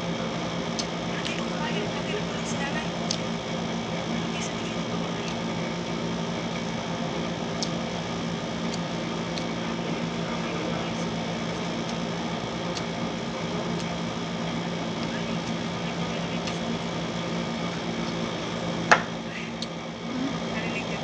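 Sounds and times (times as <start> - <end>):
air conditioner humming: 0.0 - 21.0.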